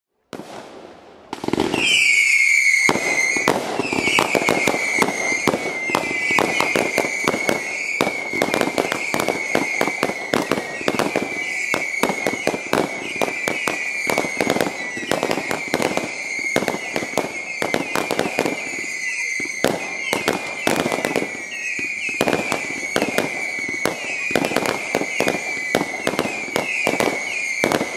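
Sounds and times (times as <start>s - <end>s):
fireworks bursting and crackling: 0.2s - 27.9s
high whistle sliding down: 1.7s - 27.9s.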